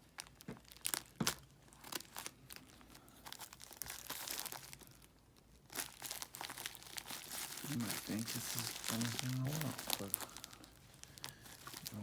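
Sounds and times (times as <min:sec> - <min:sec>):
packaging crinkling: 0:00.0 - 0:12.0
packaging tearing: 0:00.2 - 0:12.0.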